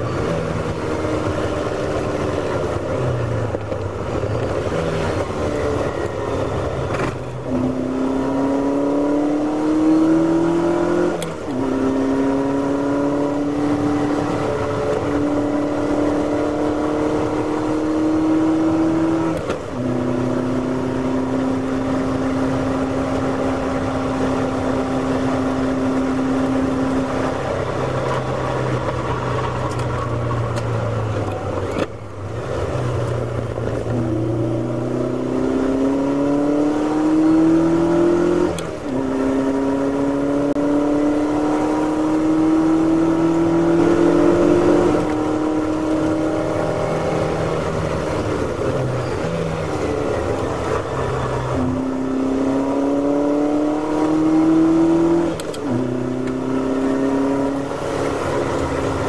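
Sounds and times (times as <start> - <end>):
race car engine revving: 0.0 - 59.0
road and wind noise: 0.0 - 59.0.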